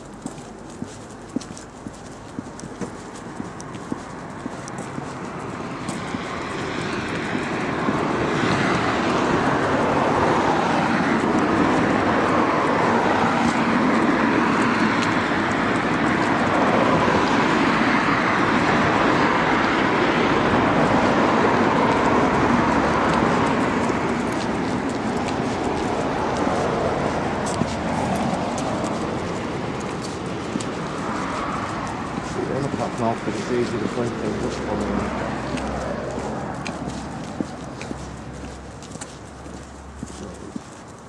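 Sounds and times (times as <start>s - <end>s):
steady road traffic: 0.0s - 41.0s.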